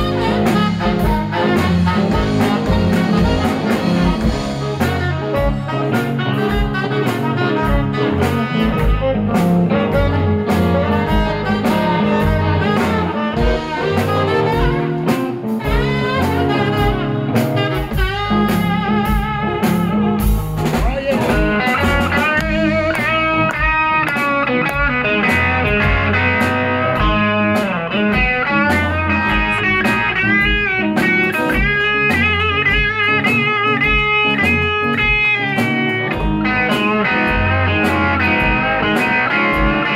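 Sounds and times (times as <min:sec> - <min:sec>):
bass guitar: 0:00.0 - 0:39.9
drum kit steady beat: 0:00.0 - 0:39.9
electric guitar bent notes: 0:00.0 - 0:39.9
saxophone: 0:00.0 - 0:39.9.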